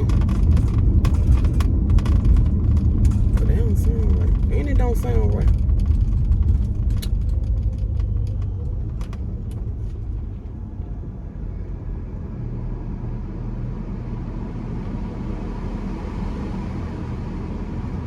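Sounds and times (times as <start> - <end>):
car cabin rumble: 0.0 - 18.0.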